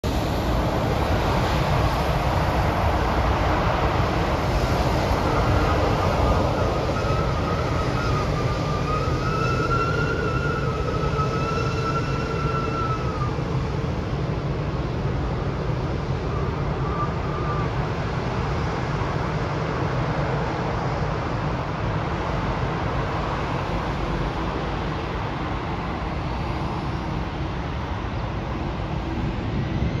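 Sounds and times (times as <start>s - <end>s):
jet engine whine: 0.0s - 30.0s
jet engines rumbling: 0.0s - 30.0s.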